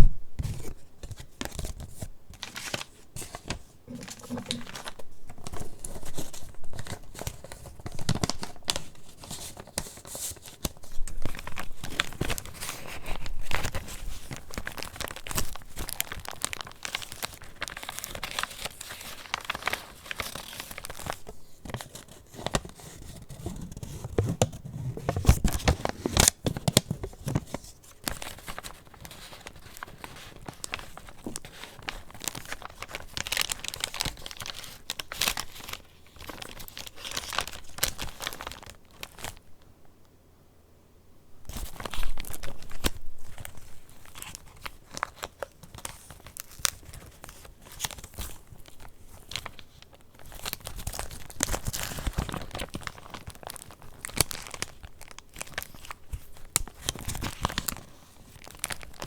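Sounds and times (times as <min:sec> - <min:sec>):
paper pages rustling: 0:00.0 - 0:39.4, 0:41.5 - 0:59.0.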